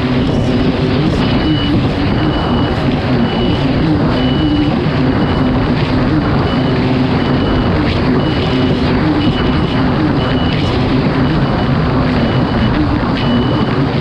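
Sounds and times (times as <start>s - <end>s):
jet ski engine running: 0.0s - 14.0s
water and hull noise: 0.0s - 14.0s
short high beep: 1.1s - 14.0s.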